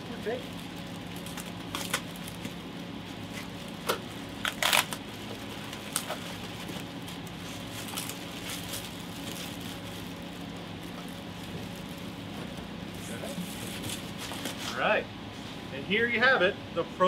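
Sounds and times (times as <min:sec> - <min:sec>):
plastic packing crinkling: 0:00.0 - 0:14.7.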